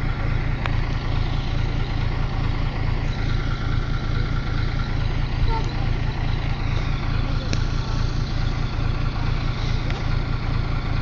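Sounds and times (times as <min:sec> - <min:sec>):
large engine idling: 0:00.0 - 0:11.0.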